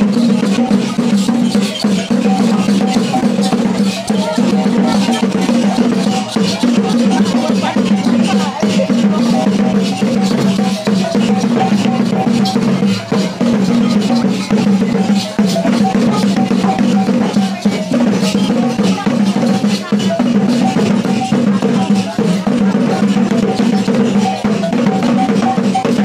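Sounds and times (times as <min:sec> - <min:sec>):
crowd voices: 0:00.0 - 0:26.0
drums beating: 0:00.0 - 0:26.0
pitched percussion pattern: 0:00.0 - 0:26.0.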